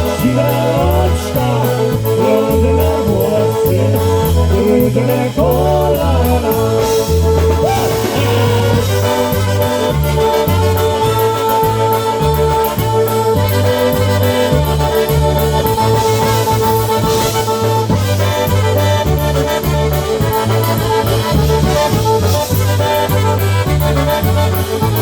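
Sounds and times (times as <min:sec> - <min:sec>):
bass line: 0:00.0 - 0:25.0
polka band playing: 0:00.0 - 0:25.0.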